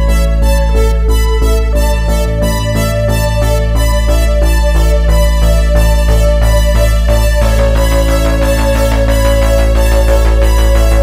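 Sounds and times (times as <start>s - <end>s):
low synth bass: 0.0s - 11.0s
repeating synth notes: 0.0s - 11.0s.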